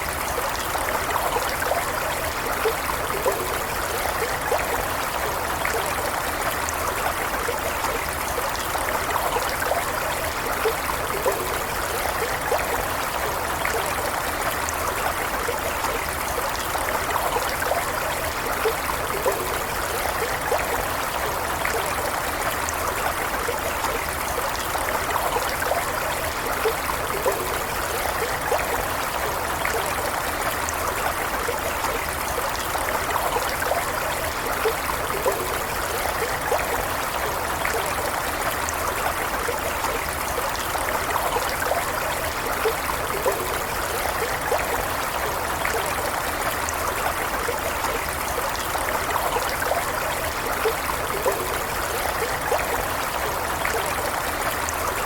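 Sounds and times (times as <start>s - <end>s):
stream flowing over stones: 0.0s - 55.0s.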